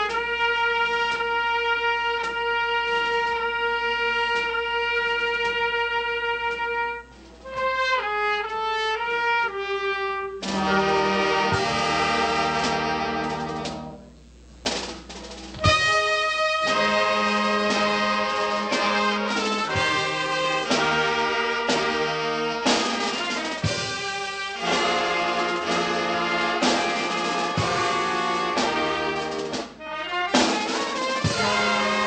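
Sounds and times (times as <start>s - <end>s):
brass band playing: 0.0s - 32.0s
trumpet playing: 0.0s - 32.0s.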